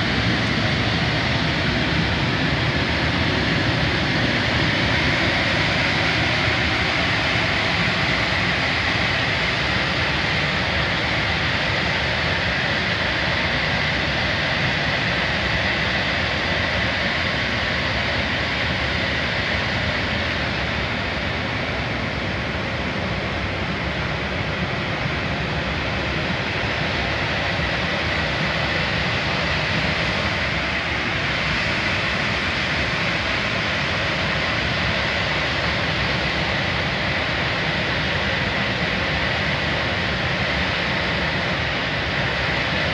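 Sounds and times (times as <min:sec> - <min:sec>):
air conditioner fan rushing: 0:00.0 - 0:42.9.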